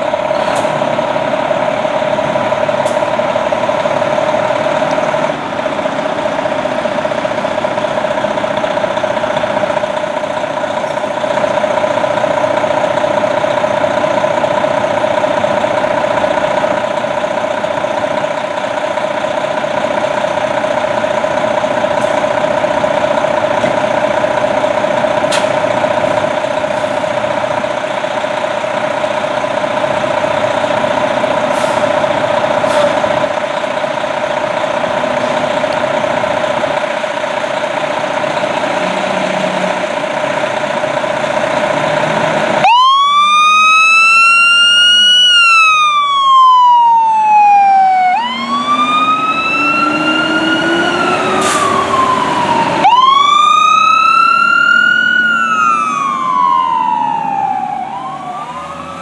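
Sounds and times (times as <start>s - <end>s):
fire engines idling: 0.0s - 59.0s.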